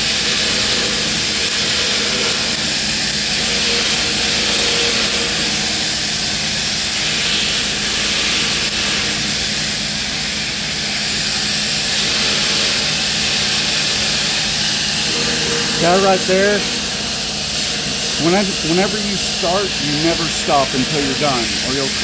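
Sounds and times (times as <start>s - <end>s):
welding arc crackling hiss: 0.0s - 22.0s.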